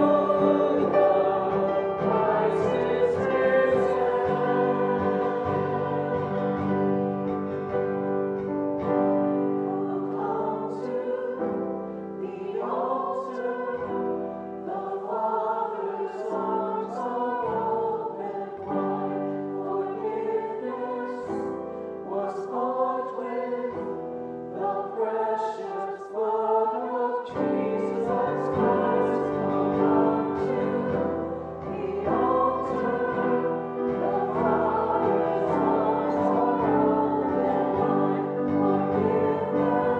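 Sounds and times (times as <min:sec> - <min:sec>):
choir singing sustained chords: 0:00.0 - 0:39.9.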